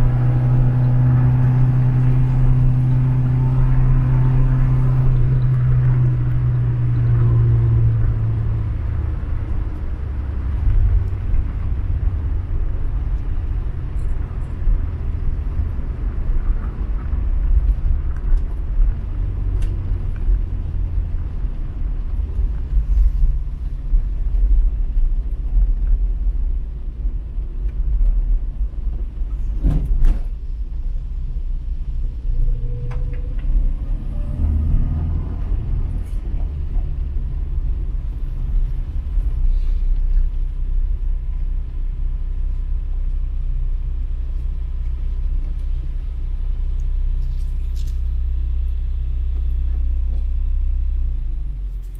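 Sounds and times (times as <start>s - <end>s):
car engine and road rumble: 0.0s - 51.9s.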